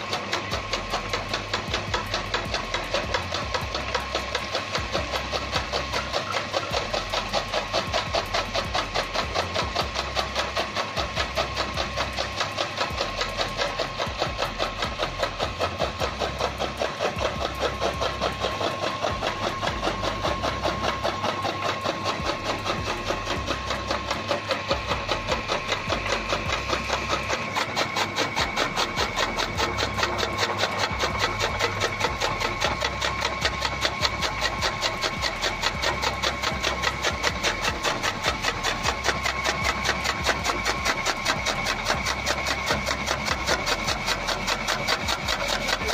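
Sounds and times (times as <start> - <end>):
chaff cutter blades chopping: 0.0 - 45.9
motor whine: 0.0 - 45.9.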